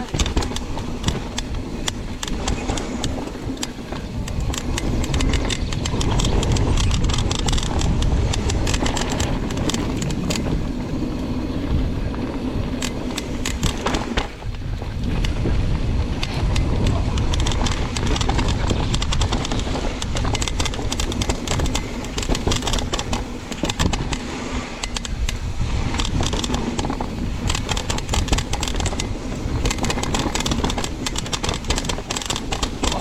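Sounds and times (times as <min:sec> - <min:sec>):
mountain bike clicks and rattles: 0:00.0 - 0:33.0
wind buffeting microphone: 0:00.0 - 0:33.0.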